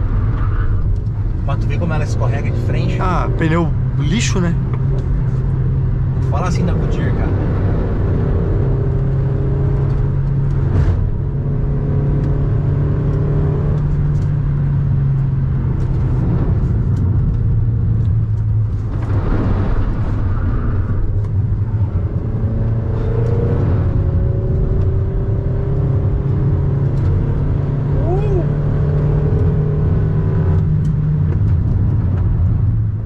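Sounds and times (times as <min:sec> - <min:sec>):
car engine under load: 0:00.0 - 0:33.0
road noise: 0:00.0 - 0:33.0.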